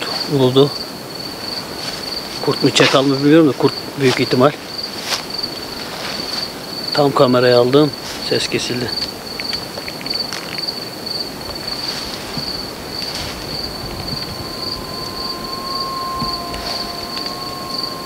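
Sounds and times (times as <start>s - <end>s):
distant canid howling: 0.0s - 18.0s
insect trill: 0.0s - 18.0s.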